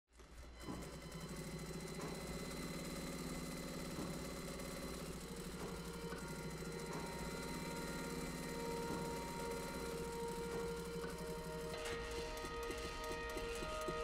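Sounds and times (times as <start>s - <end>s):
sewing machine running: 0.2s - 14.0s.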